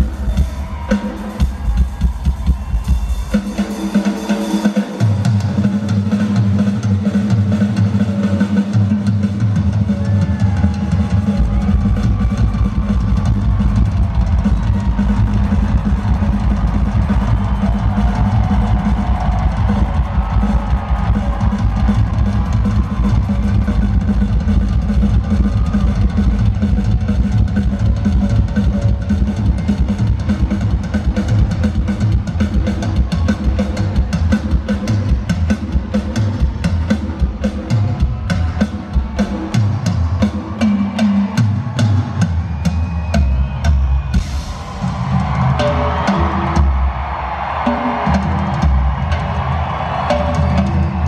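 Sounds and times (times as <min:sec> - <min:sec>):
fast bass drum roll: 0:00.0 - 0:51.0
fast drum kit solo: 0:00.0 - 0:51.0.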